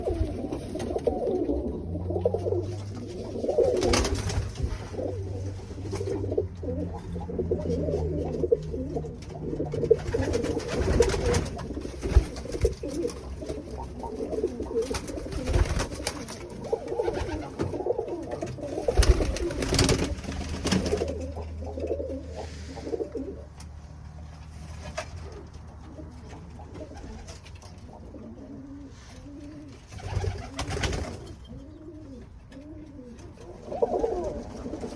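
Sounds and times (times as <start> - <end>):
low steady hum: 0.0 - 34.9
pigeons cooing: 0.0 - 34.9.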